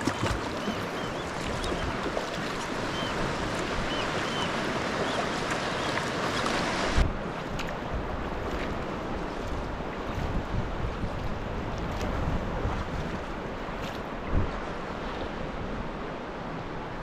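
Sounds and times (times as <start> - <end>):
water sloshing around kayak: 0.0 - 14.9
wind on microphone: 0.0 - 17.0.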